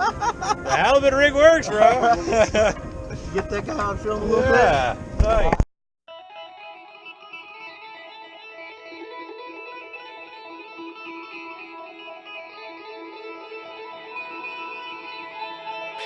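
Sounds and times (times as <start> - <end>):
guitar playing melody: 0.0 - 5.3, 6.1 - 16.0.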